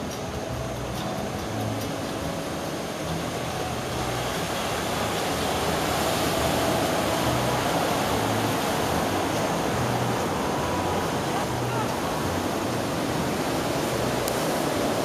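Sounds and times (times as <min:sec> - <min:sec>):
breaking wave roar: 0:00.0 - 0:15.0.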